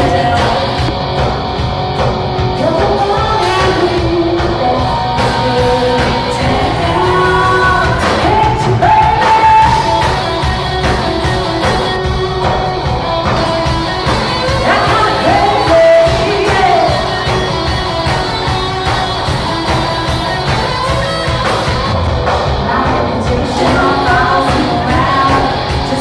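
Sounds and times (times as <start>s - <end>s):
woman singing lead: 0.0s - 1.0s, 2.5s - 21.8s, 22.4s - 26.0s
acoustic and electric guitars: 0.0s - 26.0s
bass guitar: 0.0s - 26.0s
drums: 0.0s - 26.0s.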